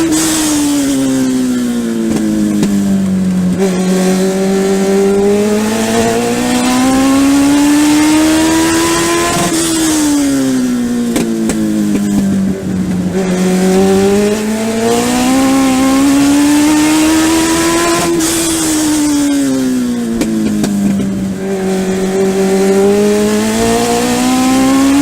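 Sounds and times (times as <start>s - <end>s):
race car engine accelerating: 0.0s - 25.0s.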